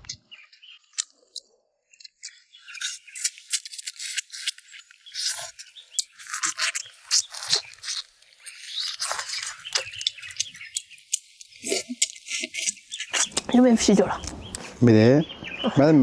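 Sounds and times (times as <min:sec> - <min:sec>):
chewing and gnawing: 0:00.1 - 0:14.7.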